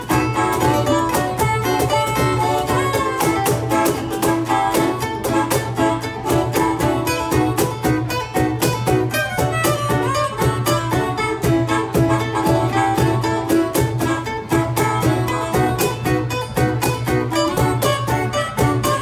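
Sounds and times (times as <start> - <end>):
acoustic guitar: 0.0 - 19.0
drum kit beat: 0.0 - 19.0
harmonica melody: 0.0 - 19.0.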